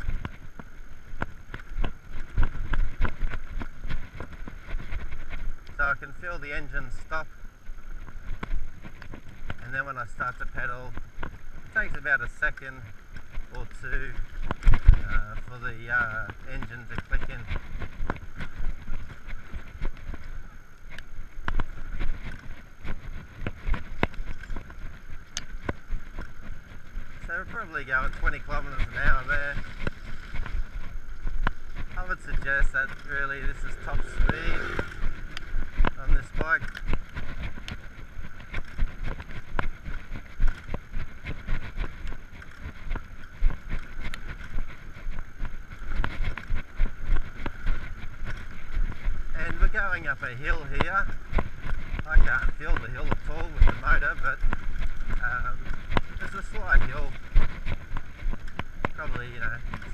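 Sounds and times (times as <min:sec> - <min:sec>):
bike rattling clicks and knocks: 0:00.0 - 0:59.9
wind and road rumble: 0:00.0 - 0:59.9.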